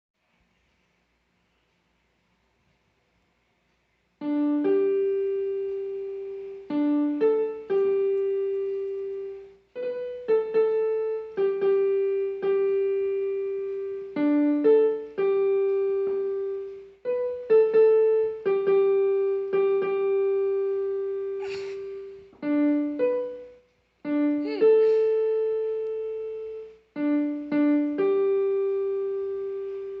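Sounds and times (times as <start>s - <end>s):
slow piano melody: 4.2s - 30.0s.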